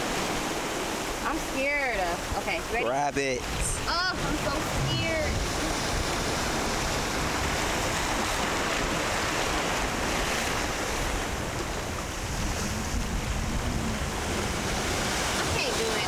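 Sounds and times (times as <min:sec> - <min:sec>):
ocean surf breaking on rocks: 0:00.0 - 0:16.0
wind buffeting microphone: 0:00.0 - 0:16.0.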